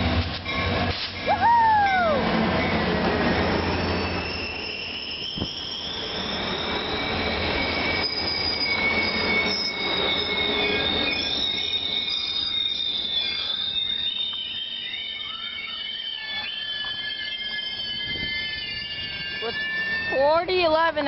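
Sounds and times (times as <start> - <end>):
train rumble: 0.0 - 21.0
train wheels squealing on rails: 0.0 - 21.0.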